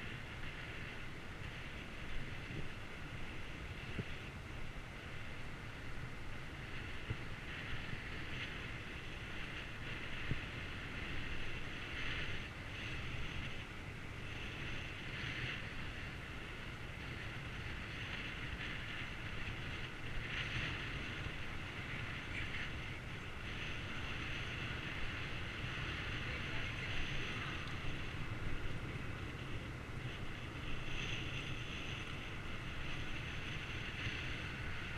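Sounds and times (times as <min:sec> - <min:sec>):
low rumble of bicycle ride: 0:00.0 - 0:34.9
wind rushing over microphone: 0:00.0 - 0:34.9.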